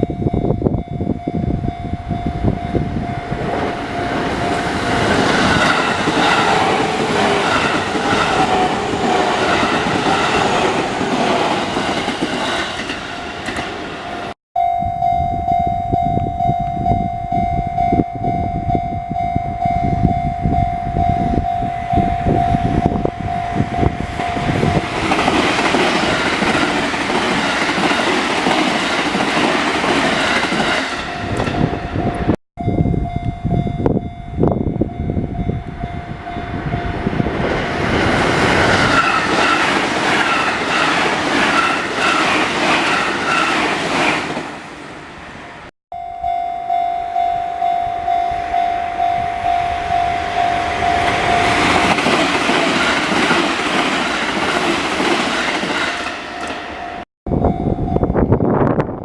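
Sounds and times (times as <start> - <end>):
train wheels rumbling on rails: 0.0 - 14.4, 20.5 - 45.0, 49.3 - 59.0
crossing warning bell ringing: 0.0 - 37.5, 38.6 - 43.9, 45.9 - 58.8.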